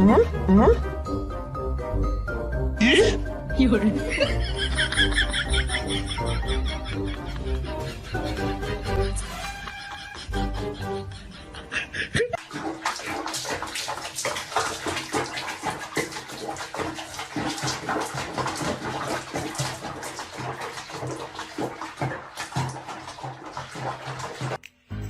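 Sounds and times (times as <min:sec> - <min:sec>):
water splashing and sloshing: 0:03.1 - 0:24.6.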